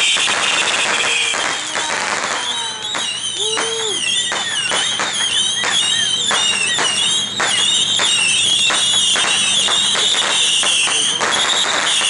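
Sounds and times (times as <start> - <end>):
fireworks bangs and crackles: 0.0 - 12.0
high-pitched whistle: 0.0 - 12.0.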